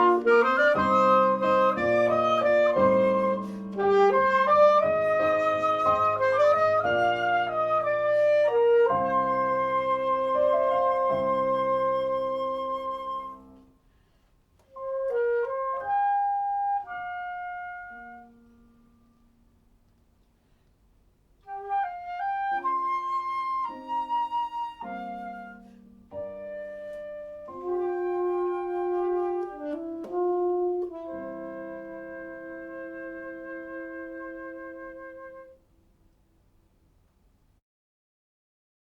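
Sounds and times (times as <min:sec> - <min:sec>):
flute: 0:00.0 - 0:13.8, 0:14.6 - 0:18.8, 0:21.4 - 0:35.7
alto saxophone: 0:00.0 - 0:13.9, 0:14.6 - 0:20.0, 0:21.4 - 0:35.7.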